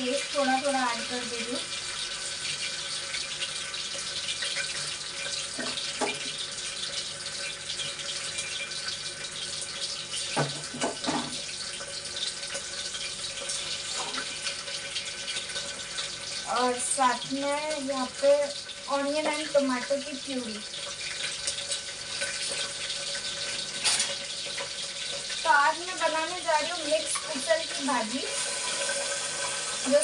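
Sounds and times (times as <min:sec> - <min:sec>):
oil sizzling in a pot: 0:00.0 - 0:30.0.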